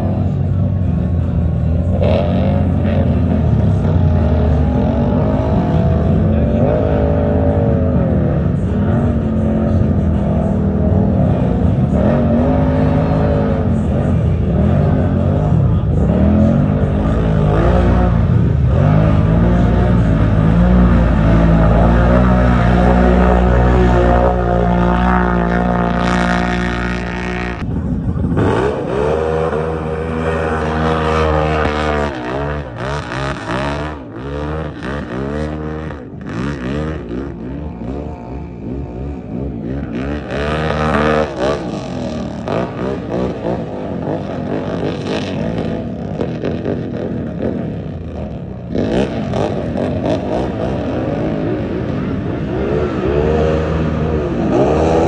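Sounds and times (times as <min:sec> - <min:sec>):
small racing engines revving: 0:00.0 - 0:55.0.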